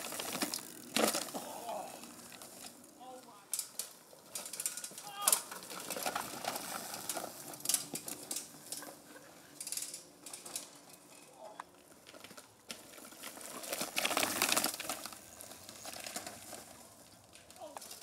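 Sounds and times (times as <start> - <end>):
bicycle tyres on dry leaves: 0.0 - 18.0.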